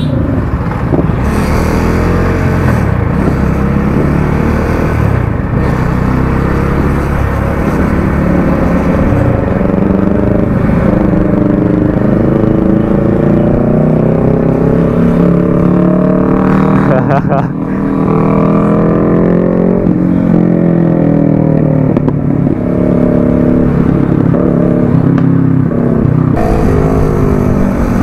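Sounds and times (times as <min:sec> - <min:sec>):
motorcycle engines running: 0:00.0 - 0:28.0.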